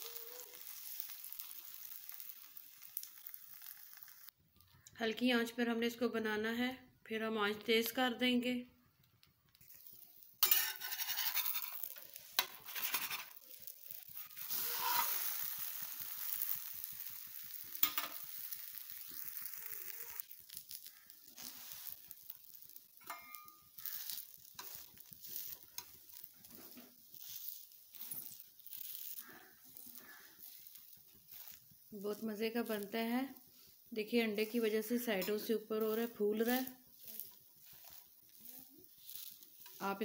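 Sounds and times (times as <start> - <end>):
flatbread sizzling on a griddle: 0.0 - 4.4, 9.5 - 40.0.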